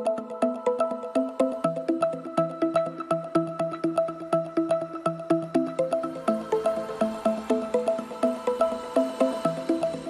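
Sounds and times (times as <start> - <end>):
electronic music with plucked synth: 0.0 - 10.0.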